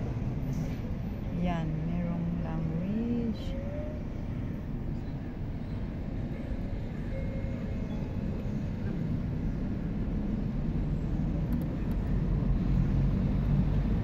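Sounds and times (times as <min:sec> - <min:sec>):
low outdoor ambient rumble: 0:00.0 - 0:14.0.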